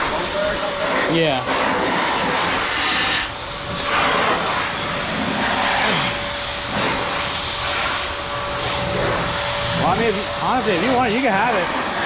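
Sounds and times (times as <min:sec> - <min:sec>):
air blower rushing with whine: 0:00.0 - 0:12.0.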